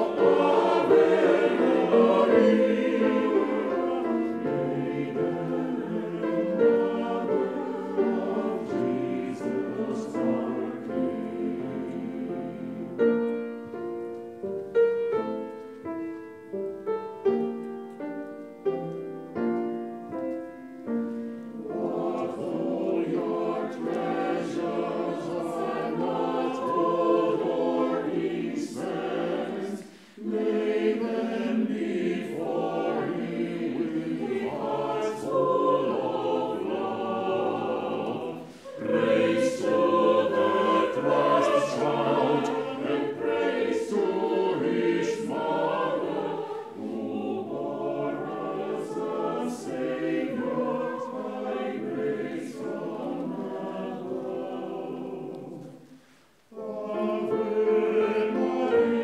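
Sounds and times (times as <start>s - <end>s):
mixed choir singing: 0.0s - 14.1s, 20.8s - 59.0s.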